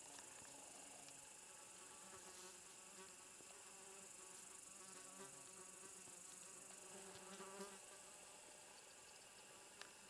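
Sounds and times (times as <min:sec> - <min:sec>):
insects chirring in grass: 0:00.0 - 0:10.0
flying insect buzzing: 0:00.4 - 0:10.0.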